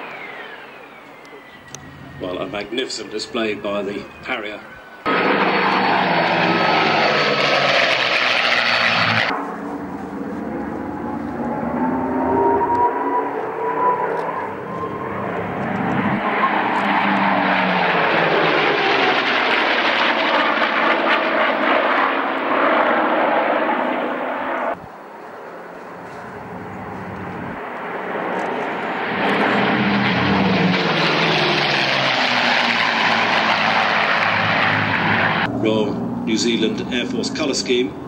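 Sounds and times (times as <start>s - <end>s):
propeller planes droning past: 0.0s - 38.0s.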